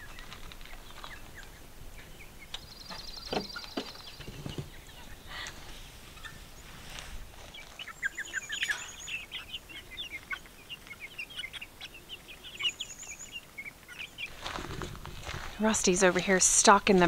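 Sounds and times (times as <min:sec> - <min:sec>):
young chickens peeping: 0:00.0 - 0:17.0.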